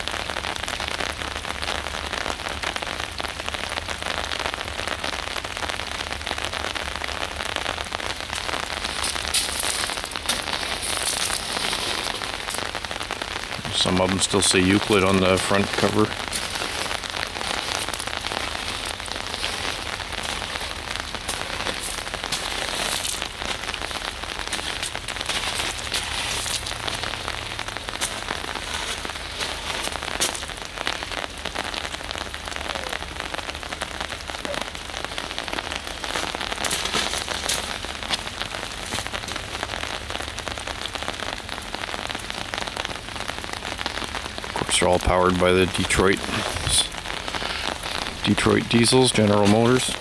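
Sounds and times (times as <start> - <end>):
steady rain: 0.0 - 50.0.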